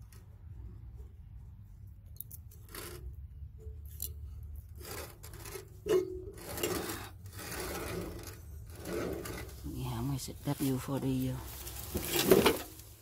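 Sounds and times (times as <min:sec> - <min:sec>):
hand tools scraping on steel: 0:00.0 - 0:10.8.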